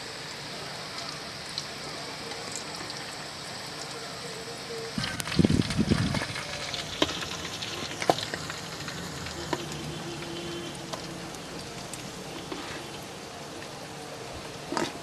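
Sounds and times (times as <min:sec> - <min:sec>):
food sizzling in hot oil: 0:00.0 - 0:14.7.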